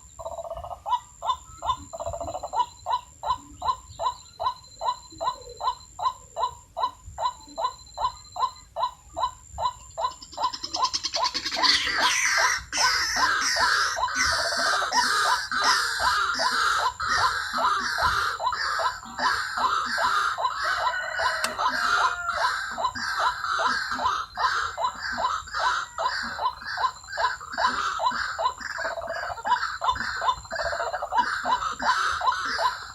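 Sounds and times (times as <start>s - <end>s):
higher cackling bird chorus: 0.0s - 32.9s
hoarse bird calls: 0.0s - 32.9s.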